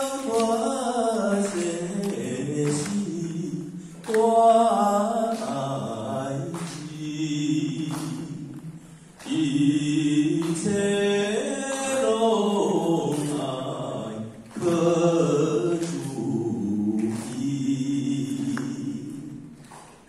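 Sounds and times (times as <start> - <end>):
man singing unaccompanied: 0.0 - 19.6.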